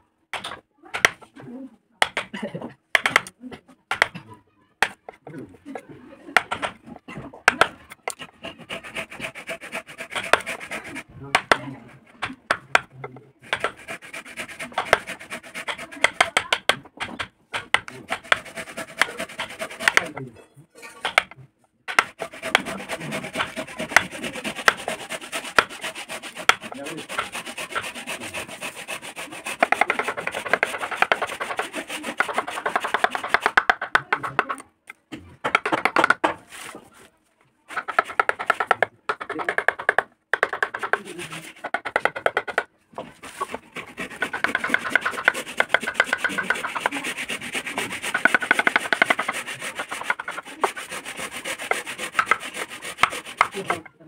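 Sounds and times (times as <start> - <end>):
chisel cutting wood: 3.9 - 4.2, 4.8 - 5.2, 6.3 - 20.3, 21.0 - 34.6, 37.7 - 53.9.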